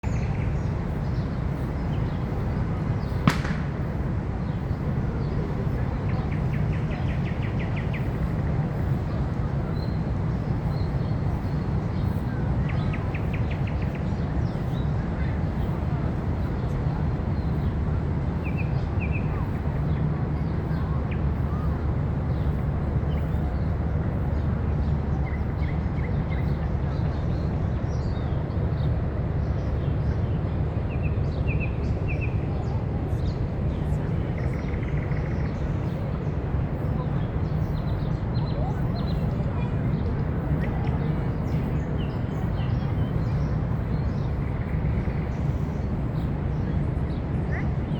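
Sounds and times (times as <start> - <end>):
low outdoor rumble: 0.0 - 47.9.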